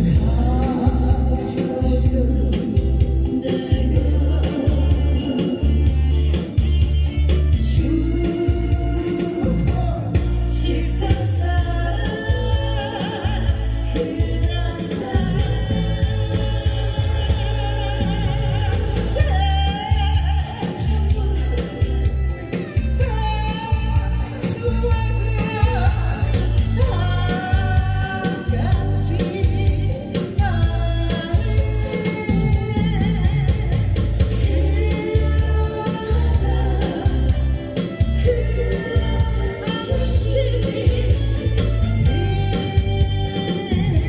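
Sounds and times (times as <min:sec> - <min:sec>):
instrumental music with bass beat: 0:00.0 - 0:44.0
person singing with vibrato: 0:00.0 - 0:44.0.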